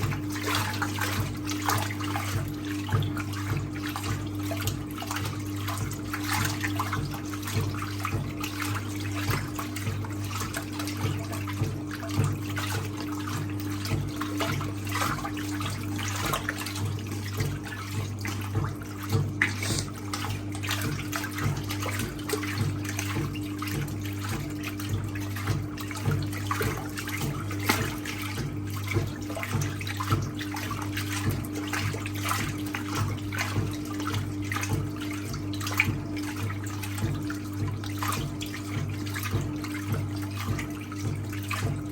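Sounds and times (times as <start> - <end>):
washing machine motor hum: 0.0 - 41.9
water and towels sloshing: 0.0 - 41.9.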